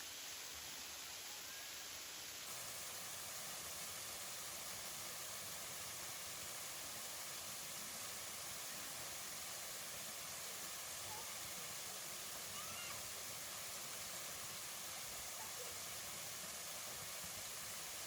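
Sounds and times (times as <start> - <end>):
waterfall rushing: 2.4 - 18.0.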